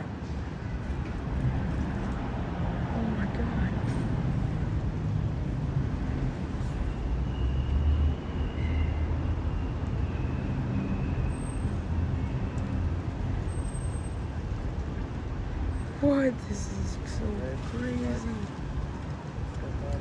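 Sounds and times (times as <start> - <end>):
low rumble of passing traffic: 0.0 - 20.0.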